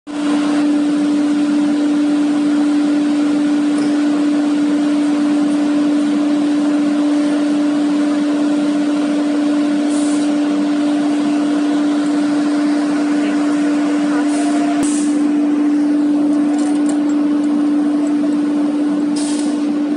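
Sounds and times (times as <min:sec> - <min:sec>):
cnc router spindle whine: 0:00.1 - 0:19.9.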